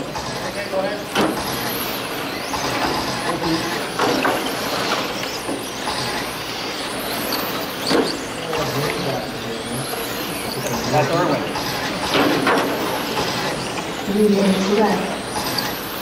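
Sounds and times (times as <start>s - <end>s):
radio-controlled cars racing: 0.0s - 16.0s.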